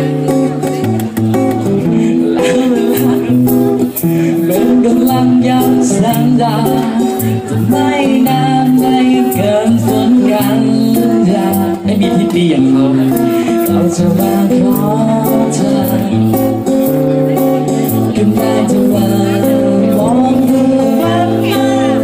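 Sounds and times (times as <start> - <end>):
guitar playing: 0.0 - 22.0
person singing: 1.6 - 22.0.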